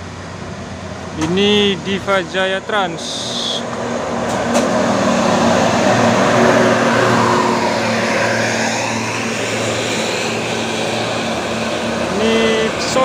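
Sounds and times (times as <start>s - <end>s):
bus diesel engine driving past: 0.0s - 13.0s.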